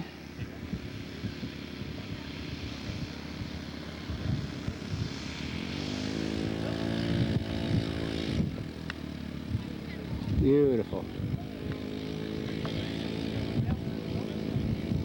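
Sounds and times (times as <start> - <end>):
model airplane propeller engine drone: 0.0 - 15.0.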